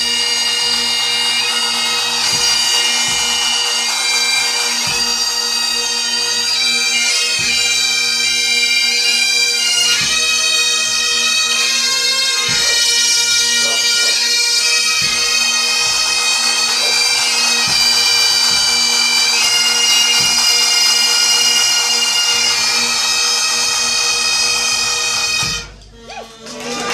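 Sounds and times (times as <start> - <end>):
bagpipes playing over drones: 0.0 - 26.9
drum beats: 0.0 - 26.9.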